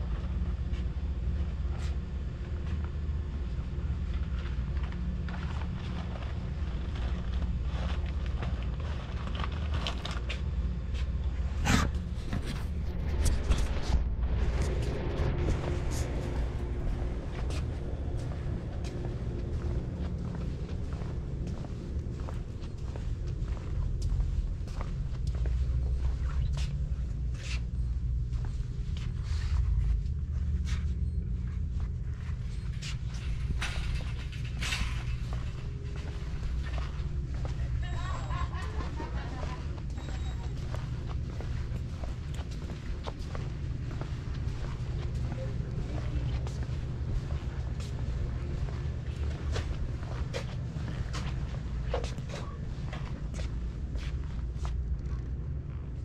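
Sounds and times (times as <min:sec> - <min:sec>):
low steady hum: 0:00.0 - 0:56.0
steady low rumble: 0:00.0 - 0:56.0.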